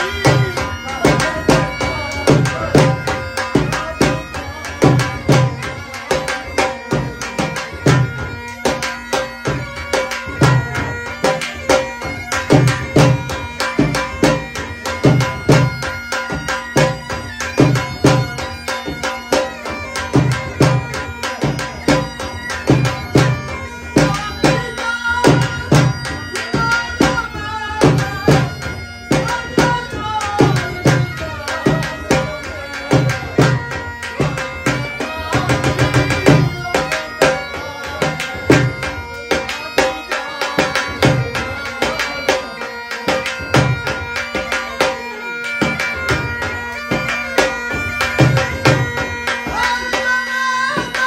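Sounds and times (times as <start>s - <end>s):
bagpipe melody with drone: 0.0s - 51.0s
dhol drum beating: 0.0s - 51.0s.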